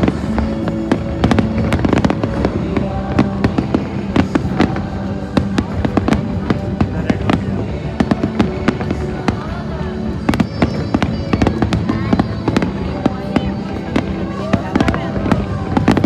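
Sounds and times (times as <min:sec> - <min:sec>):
fireworks bangs and crackles: 0:00.0 - 0:16.0
music soundtrack: 0:00.0 - 0:16.0.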